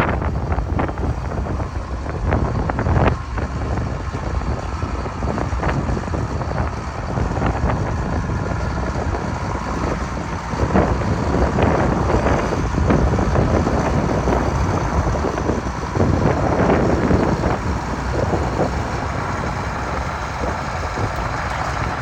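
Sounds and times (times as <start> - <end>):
tractor diesel engine running: 0.0 - 22.0
wind buffeting microphone: 0.0 - 22.0.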